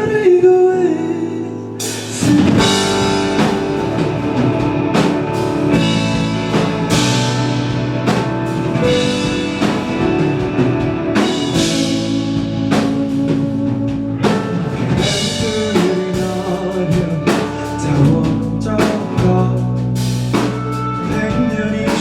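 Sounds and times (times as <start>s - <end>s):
guitar and bass chords: 0.0s - 22.0s
drum kit steady beat: 1.8s - 22.0s.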